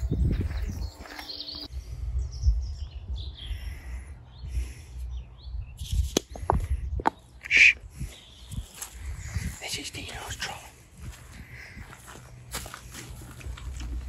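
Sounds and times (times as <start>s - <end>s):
songbirds chirping: 0.0s - 14.0s
wind rumble on microphone: 0.0s - 14.0s.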